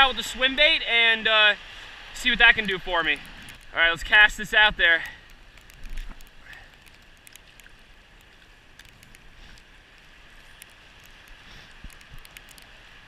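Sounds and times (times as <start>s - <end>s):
faint steady wind: 0.0s - 13.0s
light ticks: 2.5s - 13.0s.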